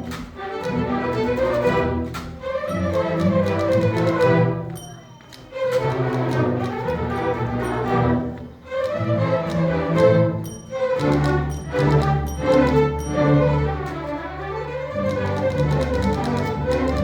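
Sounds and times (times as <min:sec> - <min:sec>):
sharp percussive clicks: 0:00.0 - 0:14.2, 0:14.9 - 0:17.0
orchestral string music: 0:00.0 - 0:17.0.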